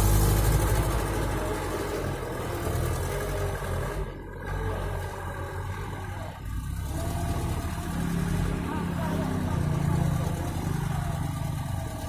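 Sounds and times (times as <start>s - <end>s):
diesel truck engine droning: 0.0s - 12.0s.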